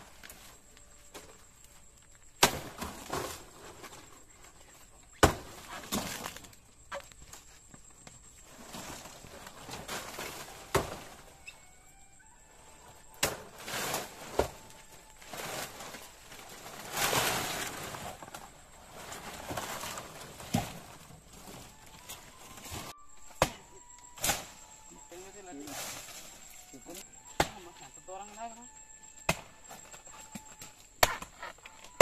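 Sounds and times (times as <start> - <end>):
dry fronds rustling: 0.0 - 23.0, 24.0 - 29.2.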